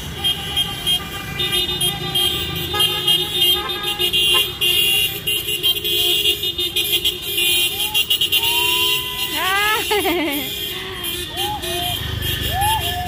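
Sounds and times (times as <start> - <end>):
car horns honking: 0.0 - 13.0
traffic rumble: 0.0 - 13.0.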